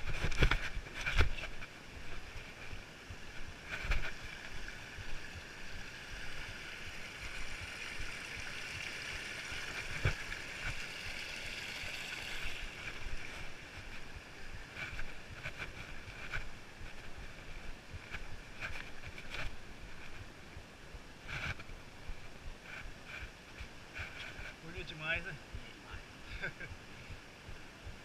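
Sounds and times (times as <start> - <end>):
stream water flowing: 0.0 - 28.0.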